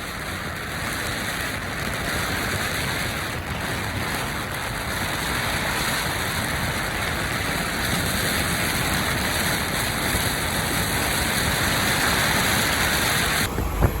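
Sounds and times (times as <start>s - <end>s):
truck road and wind noise: 1.5s - 14.0s.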